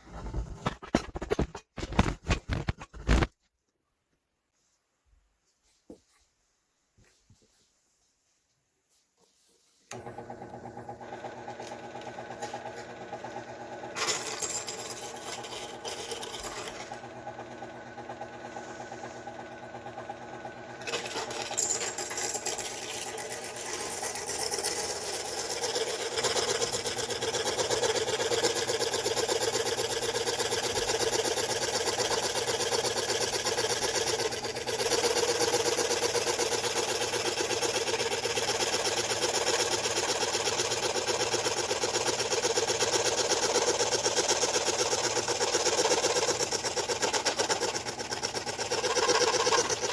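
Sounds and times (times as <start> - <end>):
scroll saw cutting: 9.9 - 49.9.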